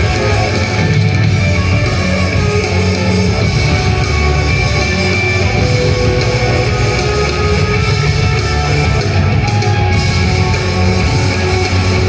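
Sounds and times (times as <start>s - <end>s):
live instrumental rock music: 0.0s - 12.0s.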